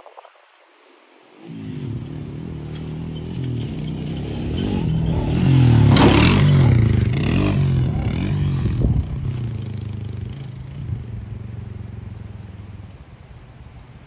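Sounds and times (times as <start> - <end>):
quad bike engine revving: 1.5 - 13.0.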